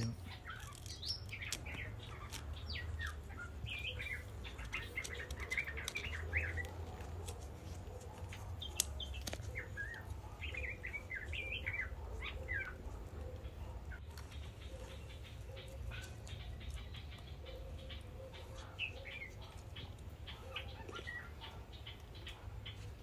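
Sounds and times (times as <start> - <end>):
small birds twittering: 0.0 - 23.0.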